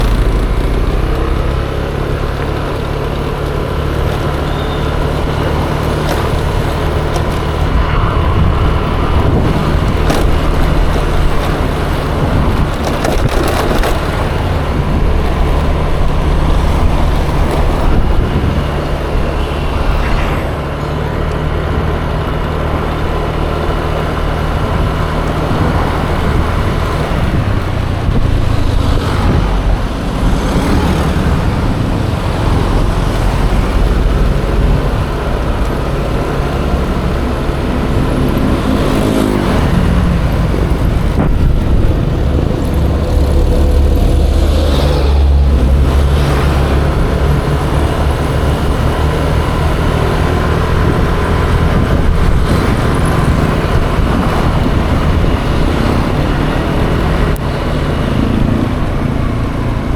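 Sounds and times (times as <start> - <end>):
road noise: 0.0 - 59.9
scooter engine running: 0.0 - 59.9.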